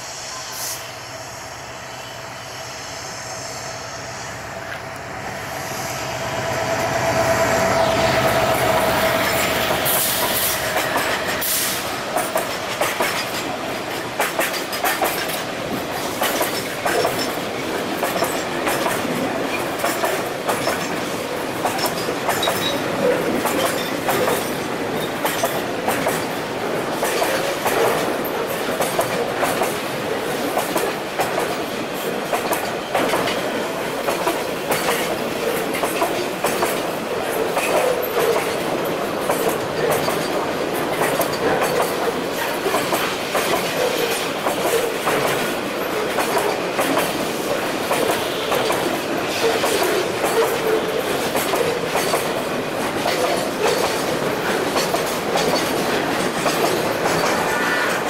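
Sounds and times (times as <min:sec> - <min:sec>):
diesel locomotive engine running: 0:00.0 - 0:29.8, 0:38.1 - 0:58.0
wheels clicking over rail joints: 0:08.5 - 0:58.0.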